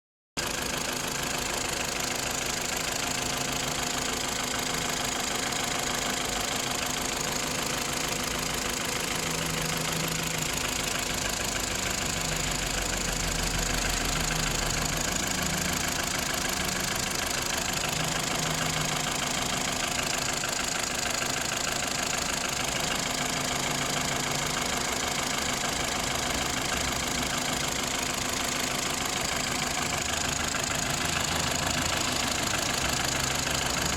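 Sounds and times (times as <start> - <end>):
car engine idling: 0.4 - 33.9
fast knocking inside engine: 0.4 - 33.9.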